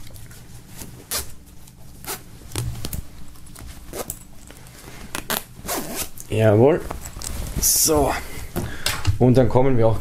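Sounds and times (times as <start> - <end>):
fabric rustling: 0.4 - 8.6.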